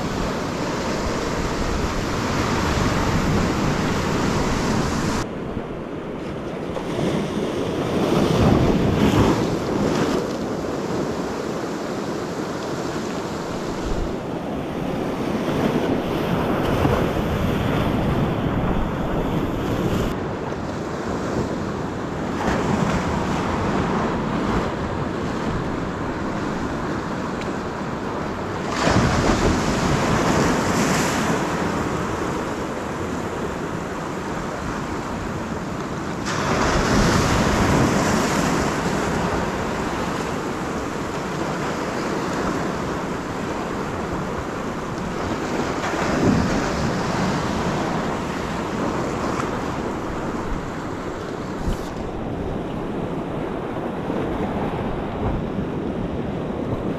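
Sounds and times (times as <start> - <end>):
wind buffeting microphone: 0.0 - 20.6, 22.4 - 56.9
surf washing over rocks: 0.0 - 56.9.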